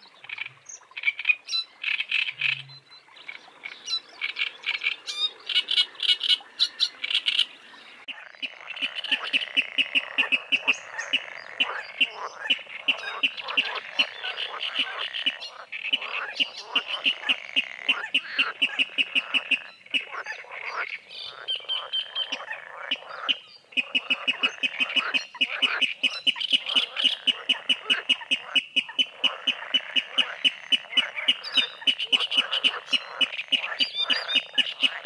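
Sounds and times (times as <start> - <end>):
chorus of frogs croaking: 0.0 - 35.0.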